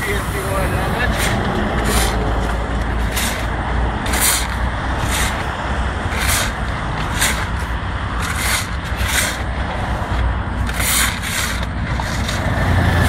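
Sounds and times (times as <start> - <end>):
shovels scraping asphalt: 0.0 - 13.0
truck engine rumbling: 0.0 - 13.0.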